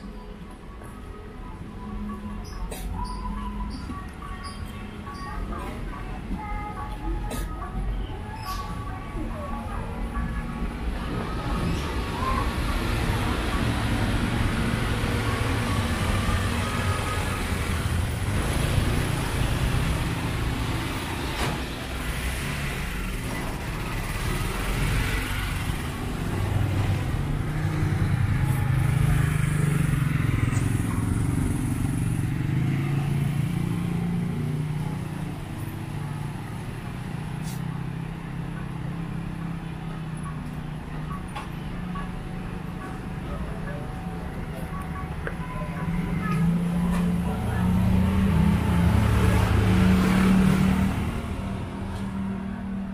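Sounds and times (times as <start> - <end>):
motorbikes passing: 8.1 - 52.9
auto-rickshaw engine passing: 9.6 - 52.9.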